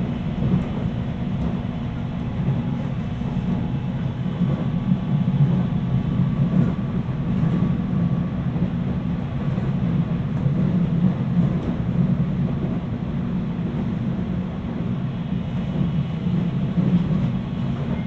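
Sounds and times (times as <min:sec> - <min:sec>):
electric train interior rumble: 0:00.0 - 0:18.0.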